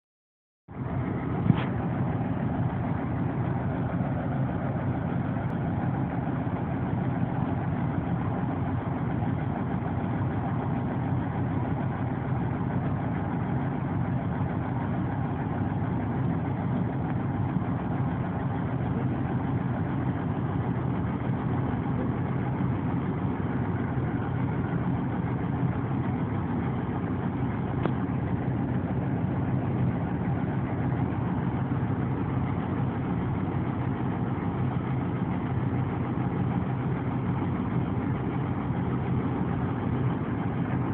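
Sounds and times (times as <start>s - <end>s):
diesel engine idling: 0.7s - 40.9s.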